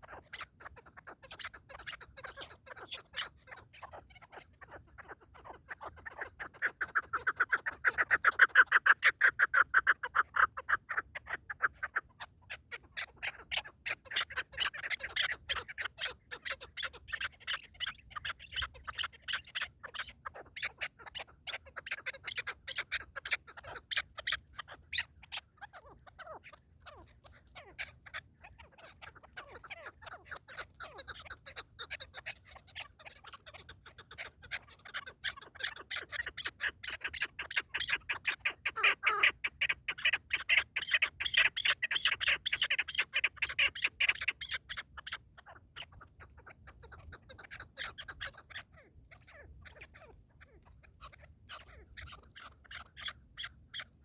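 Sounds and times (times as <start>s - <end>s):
partridge clucking calls: 0.0s - 54.0s.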